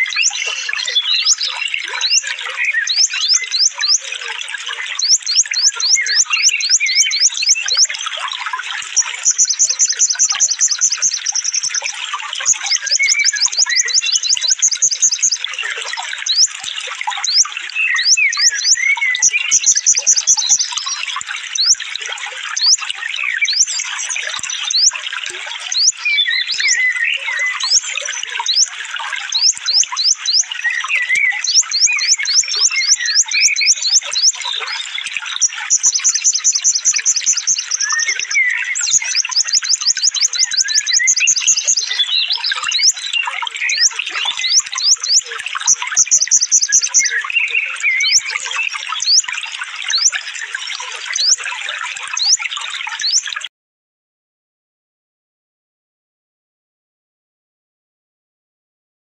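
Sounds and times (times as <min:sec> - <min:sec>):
rapid high-pitched bird trills: 0:00.0 - 0:21.9, 0:22.5 - 0:53.5
birds twittering and chattering: 0:00.0 - 0:53.5.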